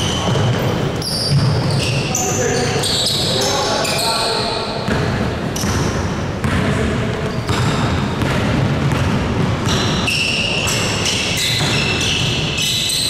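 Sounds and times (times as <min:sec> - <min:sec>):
basketball bouncing on court: 0:00.0 - 0:03.2, 0:04.8 - 0:13.0.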